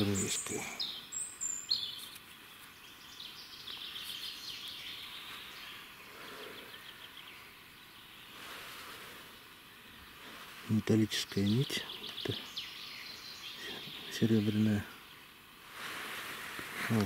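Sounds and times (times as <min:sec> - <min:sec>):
birds chirping: 0:00.0 - 0:17.0
faint steady hiss: 0:00.0 - 0:17.0.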